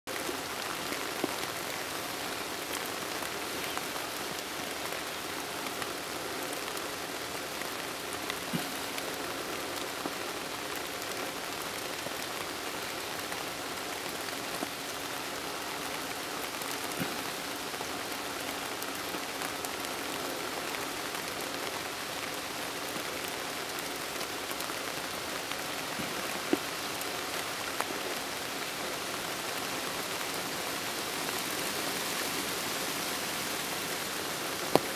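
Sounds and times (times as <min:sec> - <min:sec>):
rain falling on foliage: 0:00.0 - 0:34.9.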